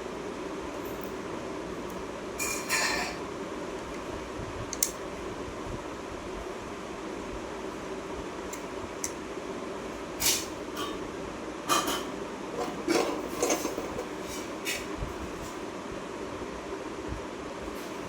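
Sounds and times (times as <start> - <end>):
fan-like hum: 0.0 - 18.0.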